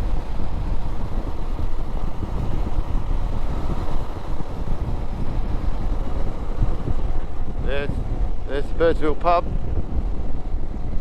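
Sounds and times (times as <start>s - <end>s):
vehicle engine and road rumble: 0.0s - 11.0s
wind noise on microphone: 0.0s - 11.0s.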